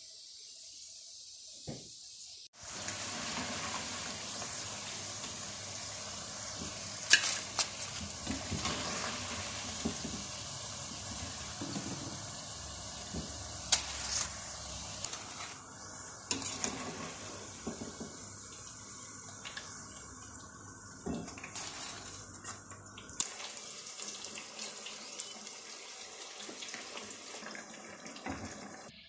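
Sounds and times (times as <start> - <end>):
potato slices deep-frying in oil: 0.1 - 28.9.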